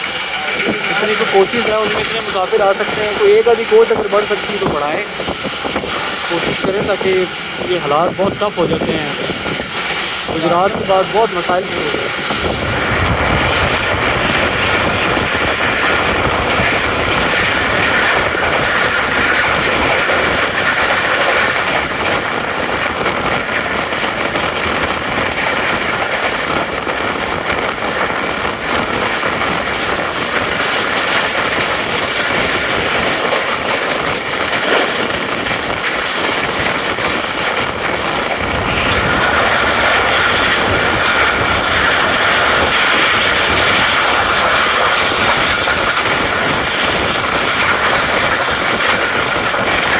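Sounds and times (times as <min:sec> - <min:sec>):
train wheels on rails: 0:00.0 - 0:49.9.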